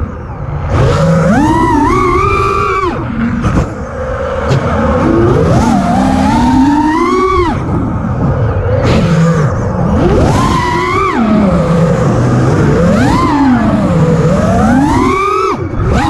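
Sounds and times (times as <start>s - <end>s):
drone motors whining: 0.0s - 16.0s
low wind rumble: 0.0s - 16.0s.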